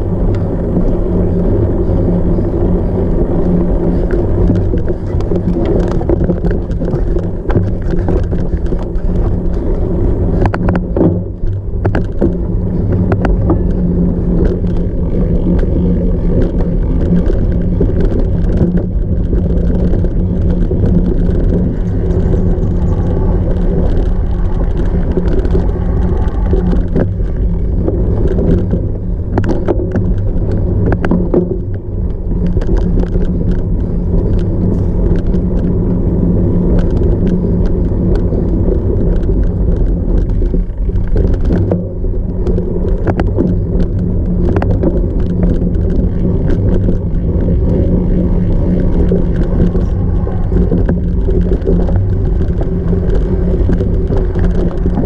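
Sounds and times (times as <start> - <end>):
bike rattling clicks: 0.0 - 55.0
wind and rolling rumble: 0.0 - 55.0.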